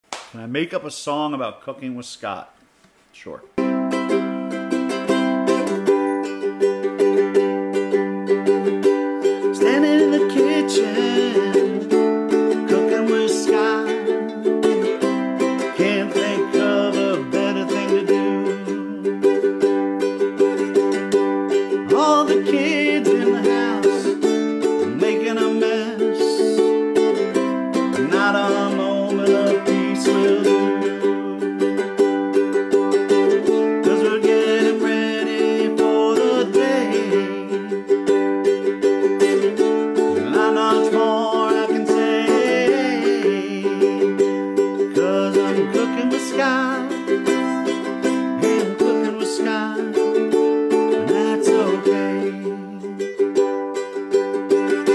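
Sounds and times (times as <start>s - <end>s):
ukulele strumming: 3.6s - 54.9s.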